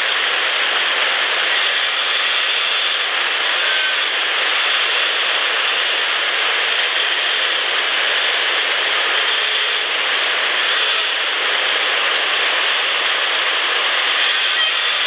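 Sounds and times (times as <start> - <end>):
distant highway traffic: 0.0 - 15.0
steady rushing noise: 0.0 - 15.0.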